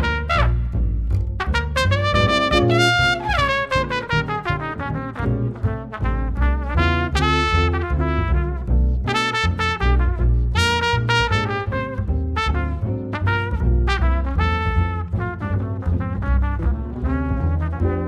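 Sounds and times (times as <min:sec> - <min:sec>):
trumpet playing quick notes: 0:00.0 - 0:00.7, 0:01.4 - 0:15.3
double bass walking: 0:00.0 - 0:18.0.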